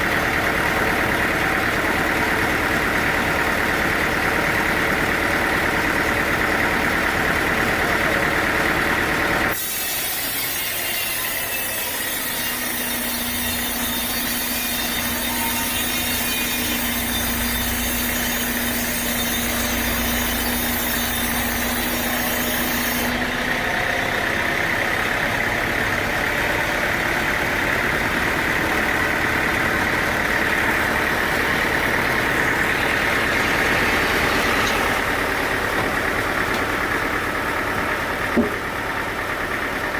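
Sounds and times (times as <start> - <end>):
saw cutting through wood: 0.0 - 38.6
sawmill machinery drone: 0.0 - 39.9.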